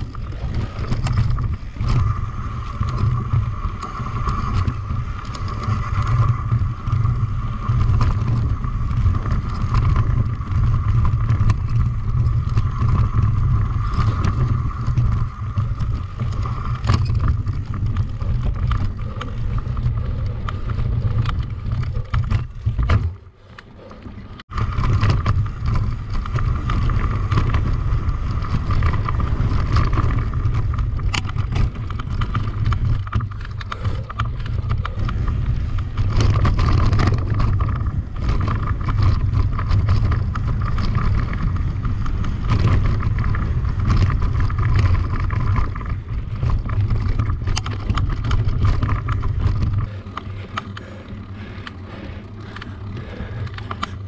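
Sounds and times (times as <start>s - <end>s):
bike rattling and knocking: 0.0s - 54.0s
wind rushing over microphone: 0.0s - 54.0s.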